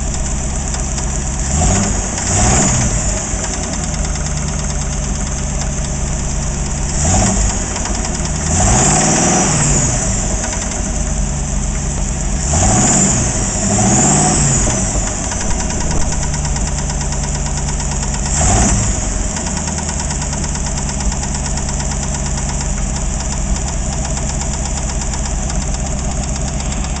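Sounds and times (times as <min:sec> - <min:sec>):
engine idling with knocking rattle: 0:00.0 - 0:27.0
engine revving: 0:00.0 - 0:27.0.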